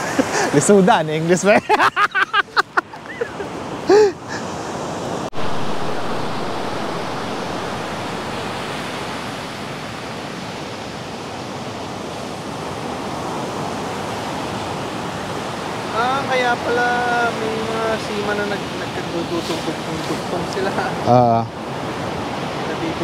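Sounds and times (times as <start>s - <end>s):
ocean surf washing onto beach: 0.0s - 23.0s.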